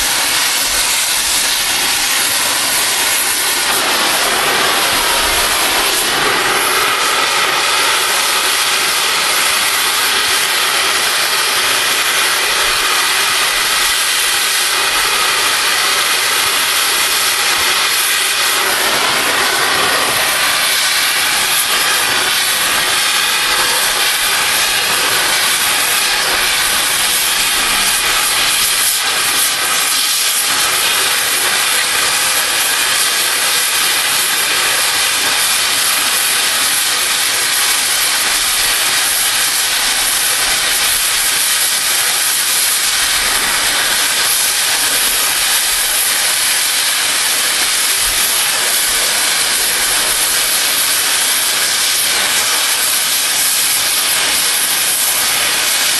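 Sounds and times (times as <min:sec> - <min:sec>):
cutting torch hissing: 0:00.0 - 0:55.9.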